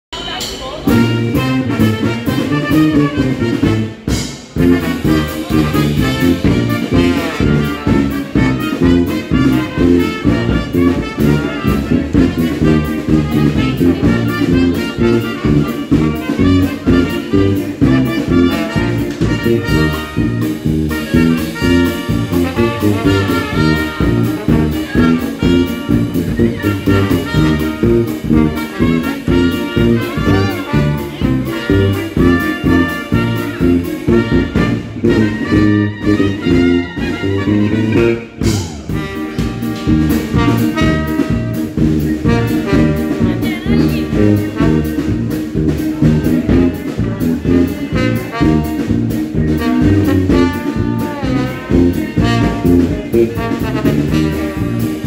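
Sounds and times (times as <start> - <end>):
jazz band playing: 0.2 - 55.0.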